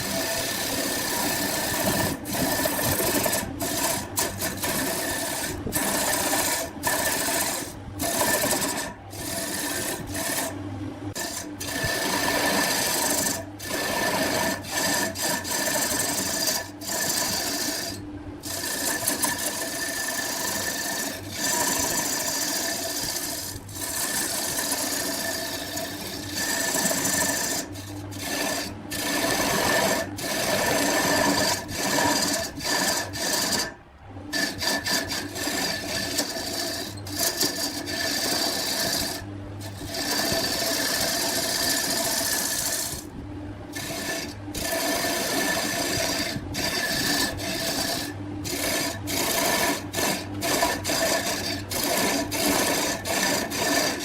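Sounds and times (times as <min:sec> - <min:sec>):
lathe motor hum: 0:00.0 - 0:54.0
tool scraping spinning wood: 0:00.0 - 0:54.0.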